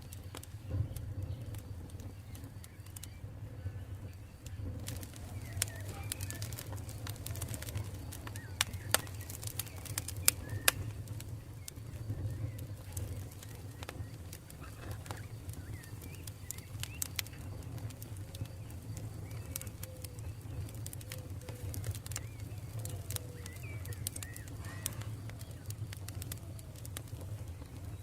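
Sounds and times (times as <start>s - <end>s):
campfire crackling: 0.0s - 28.0s
faint bird calls: 0.0s - 28.0s.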